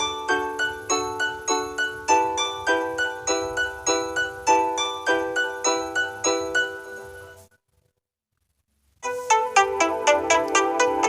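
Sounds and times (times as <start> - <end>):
phone ringtone electric piano melody: 0.0 - 7.5, 9.0 - 11.0.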